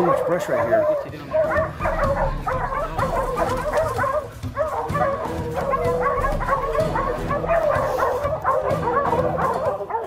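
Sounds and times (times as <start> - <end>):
hounds baying and yelping: 0.0 - 10.0.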